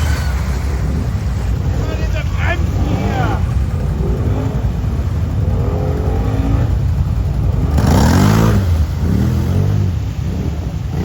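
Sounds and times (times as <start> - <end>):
loud rushing noise: 0.0 - 11.0
quad engine revving: 0.0 - 11.0.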